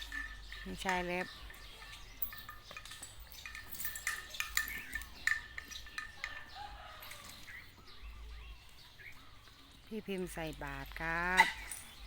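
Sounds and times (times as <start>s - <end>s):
birds chirping and clicking: 0.0s - 12.0s.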